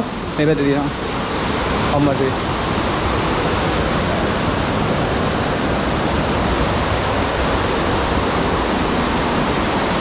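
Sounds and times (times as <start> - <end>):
rushing mountain stream: 0.0 - 10.0.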